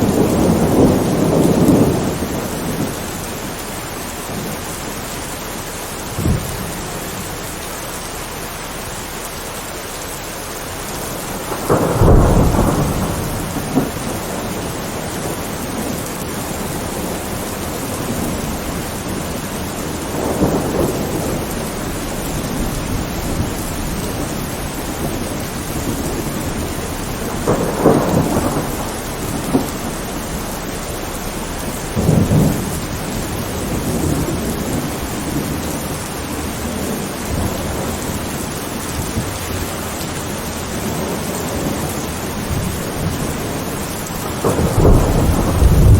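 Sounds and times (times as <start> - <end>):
thunder rumbling: 0.0 - 9.2, 10.4 - 45.9
heavy rain: 0.0 - 45.9.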